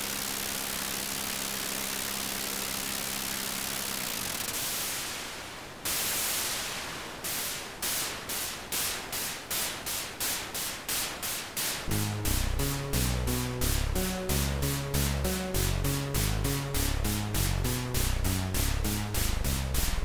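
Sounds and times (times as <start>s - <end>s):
electronic white noise: 0.0s - 8.7s, 11.1s - 20.0s
noise bursts: 1.8s - 20.0s.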